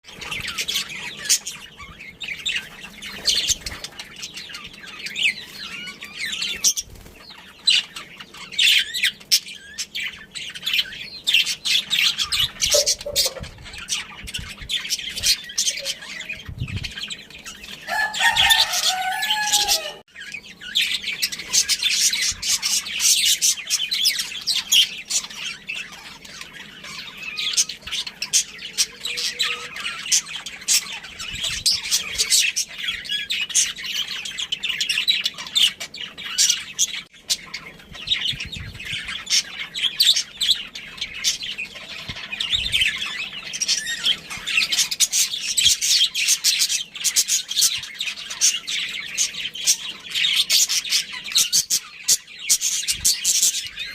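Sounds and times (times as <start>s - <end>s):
budgerigars chirping: 0.1s - 53.9s.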